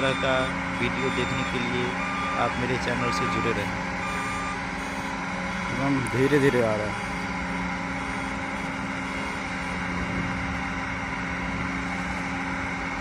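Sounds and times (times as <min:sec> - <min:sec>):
heavy vehicle engines droning: 0:00.0 - 0:13.0.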